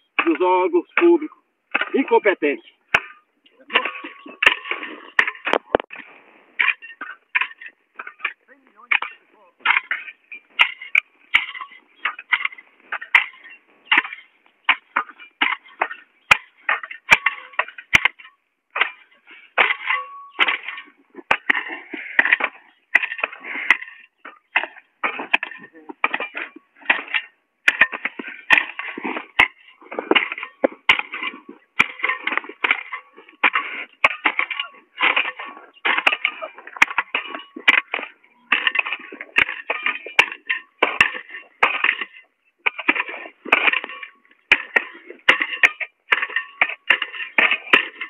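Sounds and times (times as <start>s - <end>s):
hand hoe chopping dry soil: 0.0s - 48.0s.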